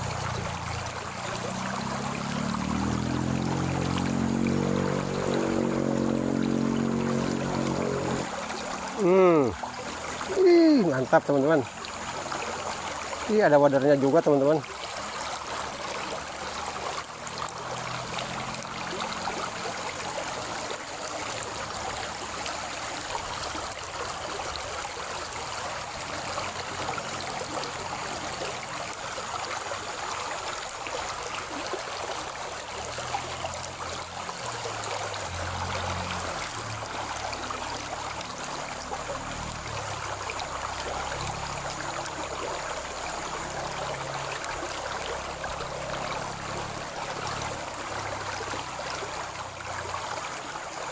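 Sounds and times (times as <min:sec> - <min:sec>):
flowing stream water: 0:00.0 - 0:50.9.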